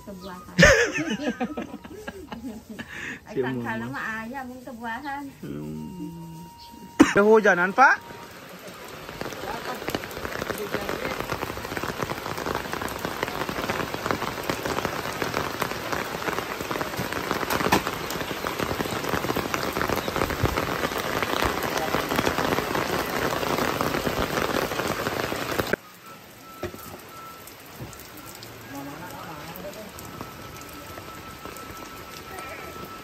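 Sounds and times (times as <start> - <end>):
rain pattering on roofs: 0.0 - 33.0.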